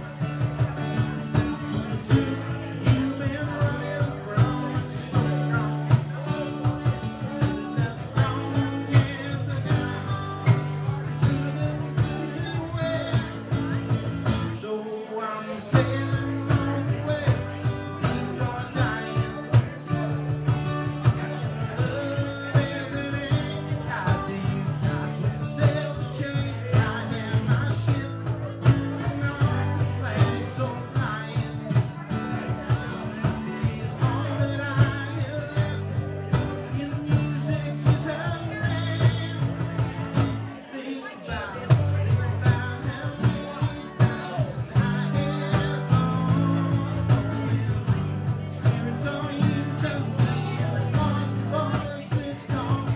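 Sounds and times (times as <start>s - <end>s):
blues-rock band playing: 0.0s - 14.7s, 15.4s - 40.6s, 41.3s - 52.9s.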